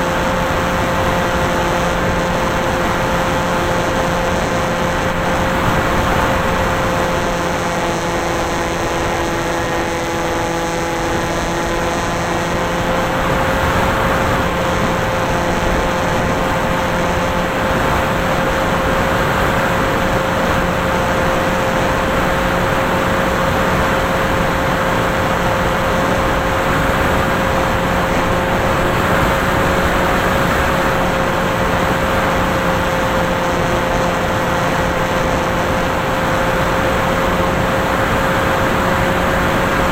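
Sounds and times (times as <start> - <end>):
drone motor hum: 0.0 - 39.9.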